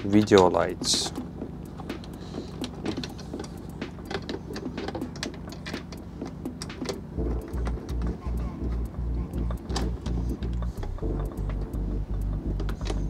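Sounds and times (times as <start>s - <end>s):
music with pulsing bass beat: 0.0s - 13.0s.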